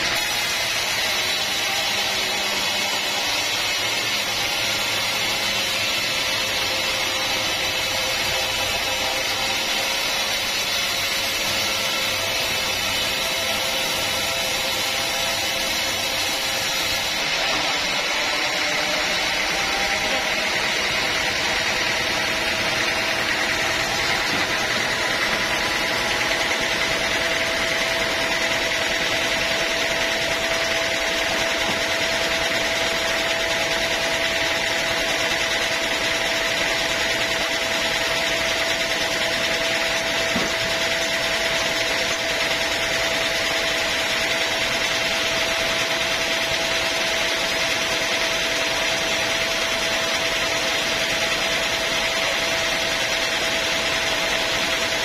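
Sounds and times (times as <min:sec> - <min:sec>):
sawmill saw whining: 0:00.0 - 0:55.0.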